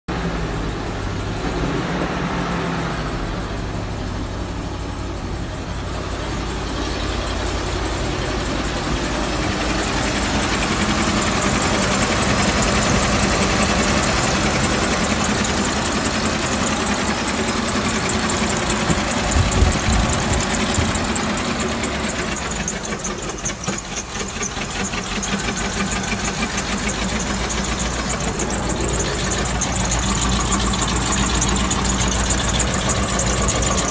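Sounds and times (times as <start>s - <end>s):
engine running with knock: 0.2s - 33.9s.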